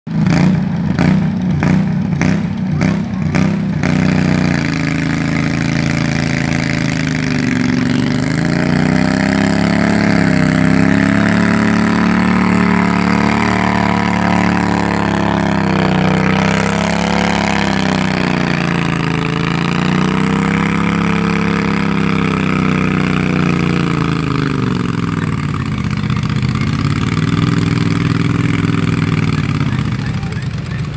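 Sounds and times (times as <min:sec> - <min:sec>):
tractor engine running under load: 0:00.1 - 0:30.9.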